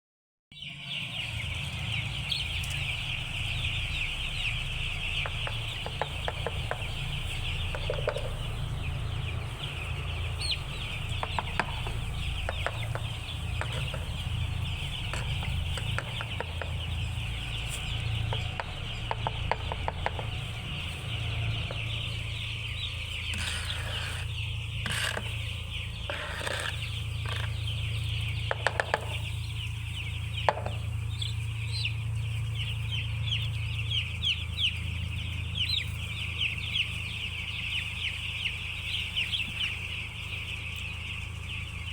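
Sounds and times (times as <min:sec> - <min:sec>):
chickens clucking: 0:00.6 - 0:41.9
steady low hum: 0:00.8 - 0:41.9.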